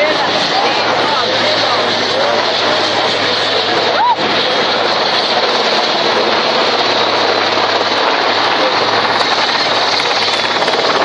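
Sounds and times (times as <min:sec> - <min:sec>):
helicopters hovering: 0:00.0 - 0:11.0.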